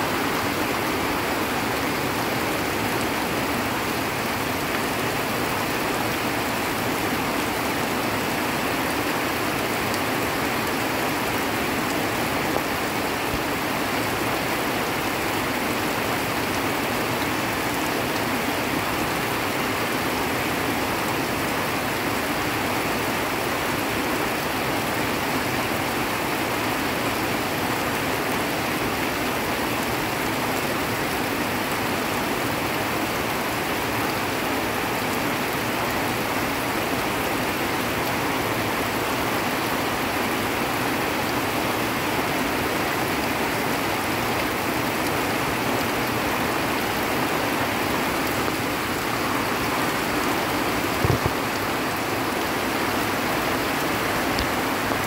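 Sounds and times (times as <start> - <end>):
heavy rain on foliage: 0.0 - 55.0
runoff water rushing: 0.0 - 55.0.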